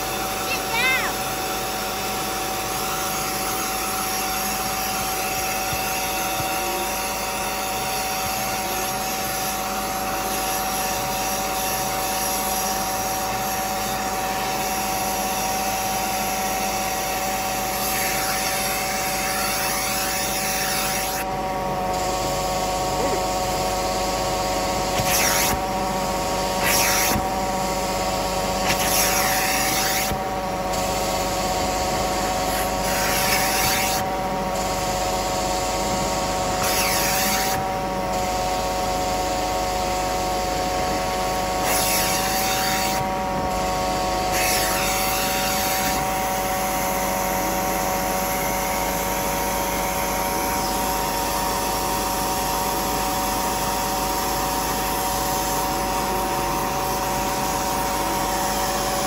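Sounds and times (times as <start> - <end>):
carpet cleaner motor whining: 0.0 - 59.0.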